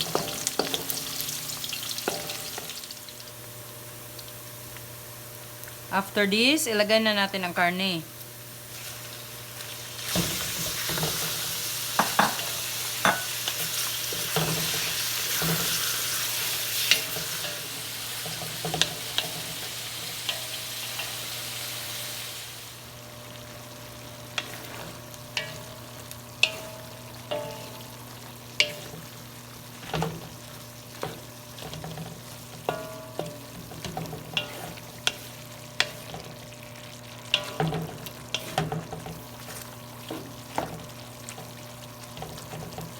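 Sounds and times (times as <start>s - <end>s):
meat sizzling in a frying pan: 0.0s - 5.9s, 8.1s - 42.9s.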